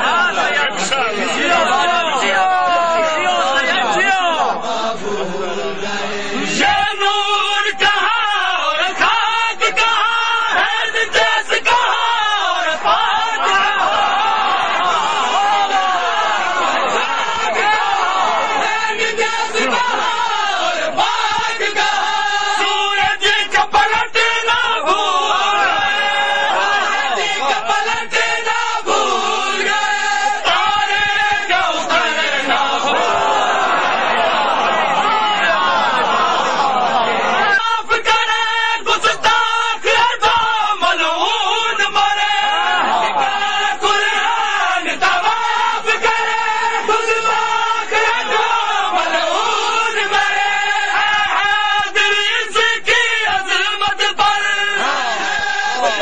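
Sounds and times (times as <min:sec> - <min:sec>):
men chanting in chorus: 0:00.0 - 0:56.0.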